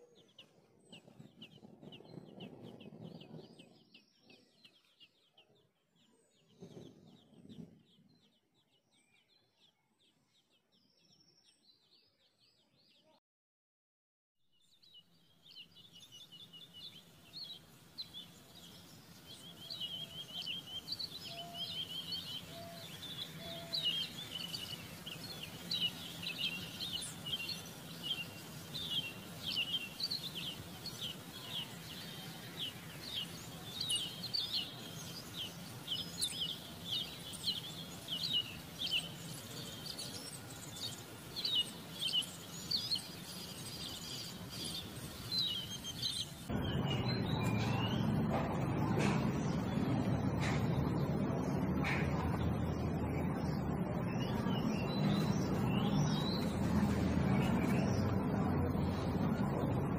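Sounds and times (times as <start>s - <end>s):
small birds chirping: 0.0s - 13.2s, 14.6s - 59.9s.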